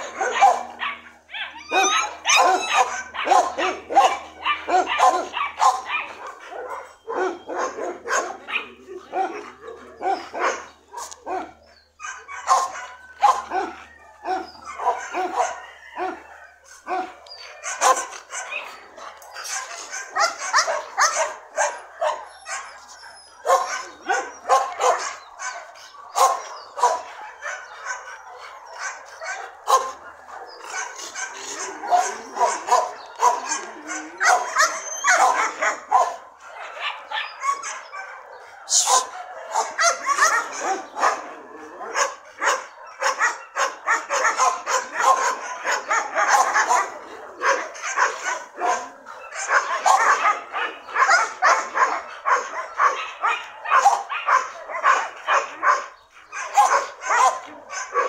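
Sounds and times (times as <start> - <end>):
dogs barking and yipping: 0.0 - 58.0.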